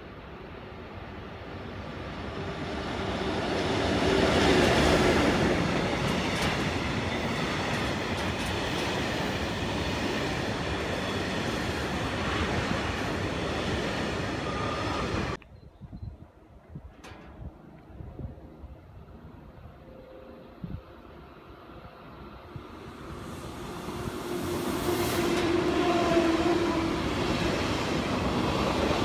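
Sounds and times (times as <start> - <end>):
freight train passing: 0.0 - 15.4, 17.0 - 29.0.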